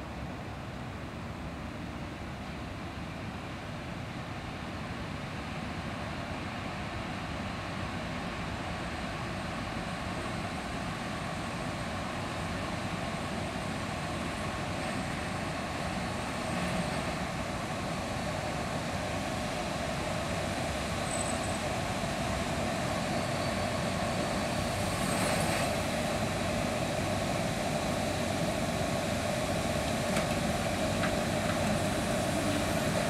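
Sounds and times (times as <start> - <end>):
locomotive hauling freight train: 0.1 - 33.0.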